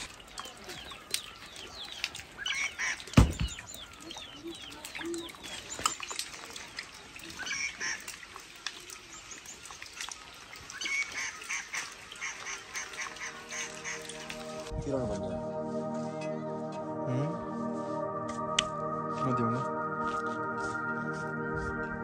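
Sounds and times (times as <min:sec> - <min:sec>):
birds calling and chirping: 0:00.0 - 0:22.0.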